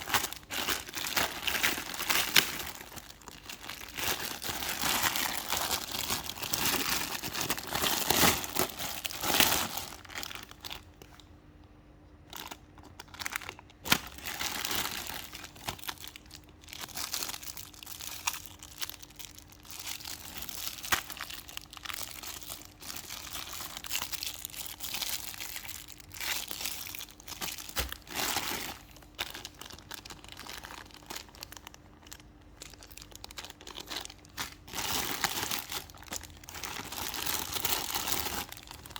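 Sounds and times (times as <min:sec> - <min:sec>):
plastic packaging crinkling: 0:00.0 - 0:11.3, 0:12.2 - 0:38.9.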